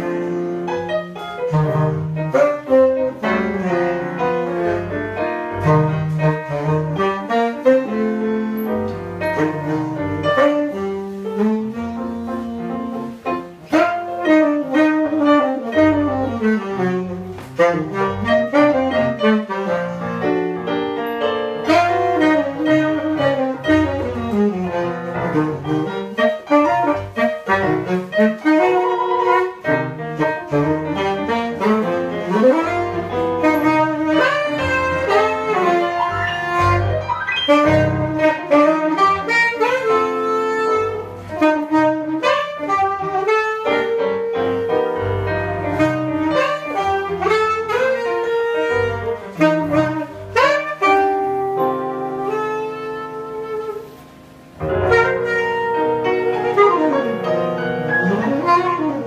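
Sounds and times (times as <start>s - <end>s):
jazz saxophone melody: 0.0s - 59.0s
piano chords and bass notes: 0.0s - 59.0s.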